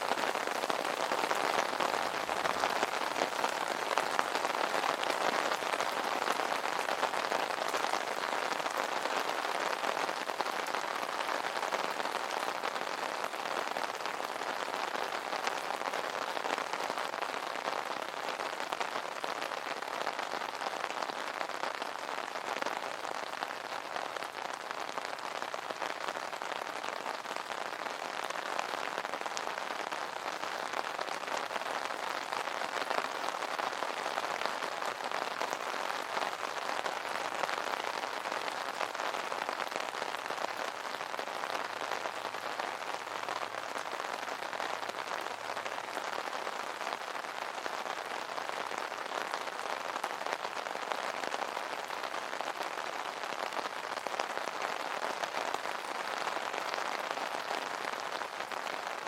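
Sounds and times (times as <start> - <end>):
rain drumming on umbrella: 0.0 - 59.0.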